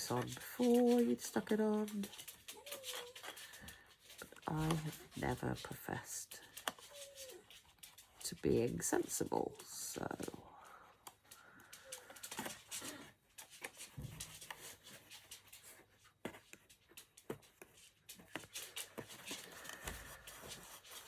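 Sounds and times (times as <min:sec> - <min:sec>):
faint clicks and rustles of card: 0:00.0 - 0:21.0.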